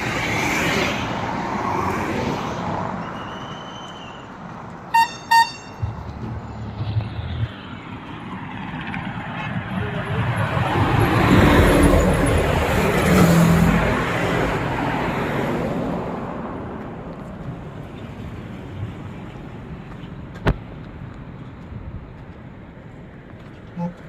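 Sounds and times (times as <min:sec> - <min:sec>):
road vehicle noise: 0:00.0 - 0:24.0.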